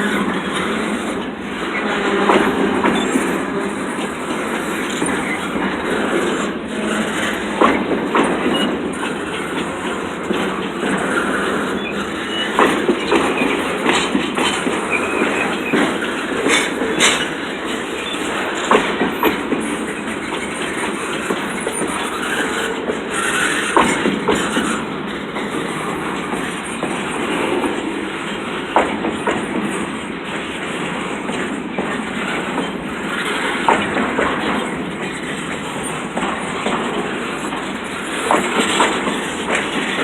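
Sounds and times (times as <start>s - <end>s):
train wheels clicking over rail joints: 0.0s - 40.0s.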